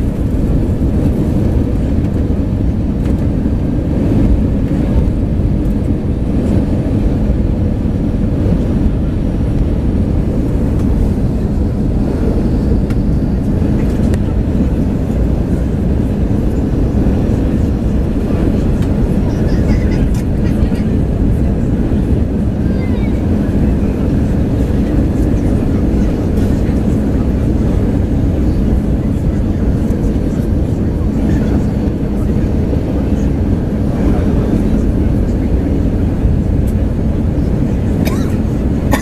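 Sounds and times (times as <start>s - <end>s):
airliner engines rumbling in cabin: 0.0s - 39.0s.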